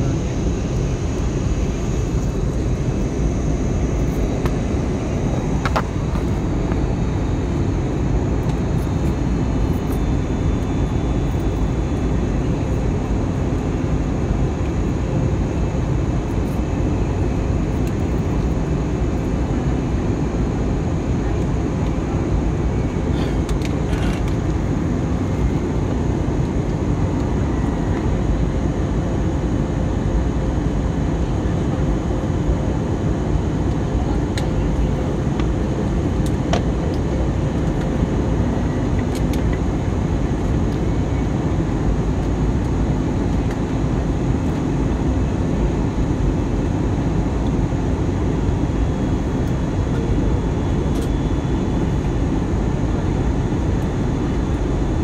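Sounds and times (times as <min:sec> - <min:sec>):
faint steady hum: 0:00.0 - 0:55.0
jet engines rumbling: 0:00.0 - 0:55.0.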